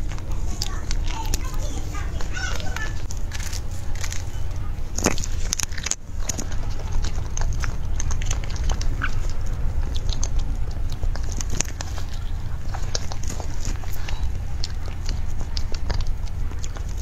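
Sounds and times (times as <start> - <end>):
mouth chewing clicks: 0.0 - 17.0
steady low hum: 0.0 - 17.0.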